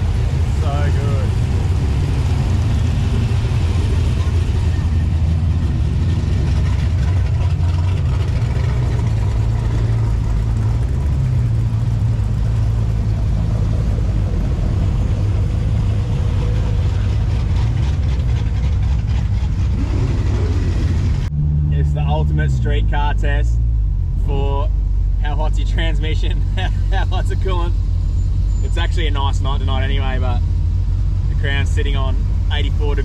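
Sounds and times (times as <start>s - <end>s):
car engine running: 0.0s - 33.0s
road noise: 0.0s - 33.0s.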